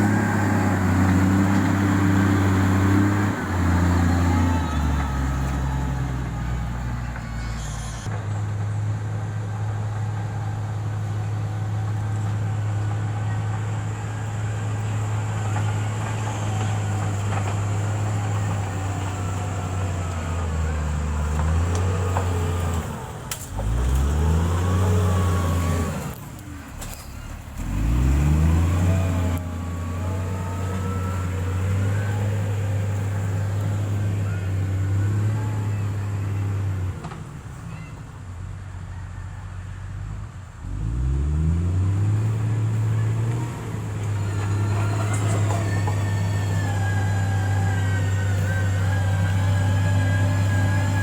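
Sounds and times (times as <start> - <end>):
diesel engine revving: 0.0 - 51.0.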